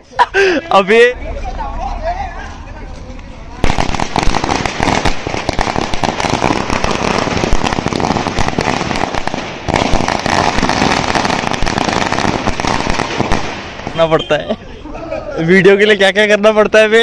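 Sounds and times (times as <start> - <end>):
firecrackers crackling: 0.4 - 14.4.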